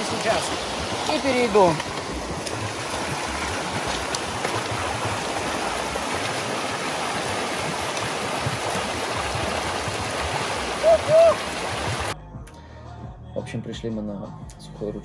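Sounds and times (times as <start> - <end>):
mountain creek rushing: 0.0 - 12.2.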